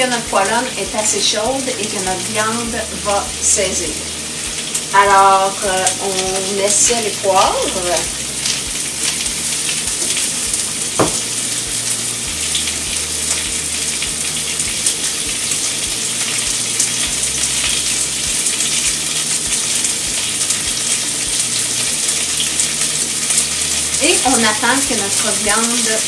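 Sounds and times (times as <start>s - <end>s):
meat sizzling in skillet: 0.0s - 26.0s.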